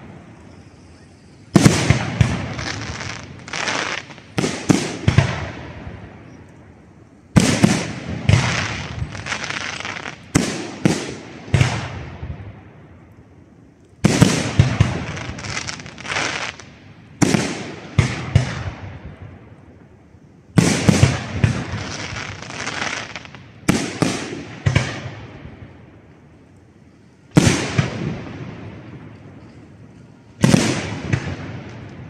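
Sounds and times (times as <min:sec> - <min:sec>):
firework crackling: 0:00.0 - 0:06.4, 0:07.3 - 0:13.3, 0:14.0 - 0:19.6, 0:20.5 - 0:26.1, 0:27.2 - 0:29.1, 0:29.7 - 0:32.0.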